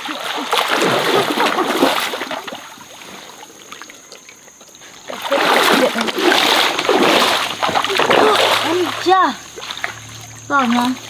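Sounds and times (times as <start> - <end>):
water splashing in a stream: 0.0 - 11.0.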